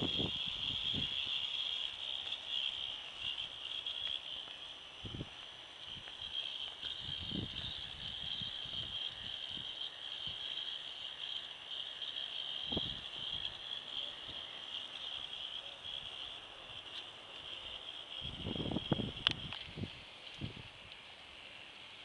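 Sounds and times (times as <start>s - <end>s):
motors and gears whirring: 0.0s - 22.0s.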